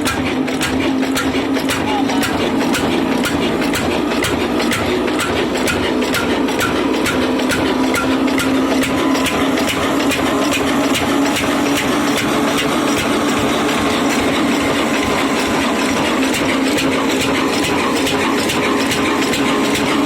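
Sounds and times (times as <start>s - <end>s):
constant hum: 0.0s - 19.9s
diesel engine running under load: 0.0s - 20.0s.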